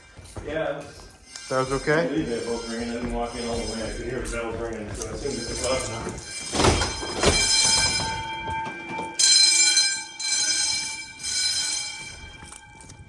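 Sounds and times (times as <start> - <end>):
fire alarm bells ringing: 0.0 - 13.0.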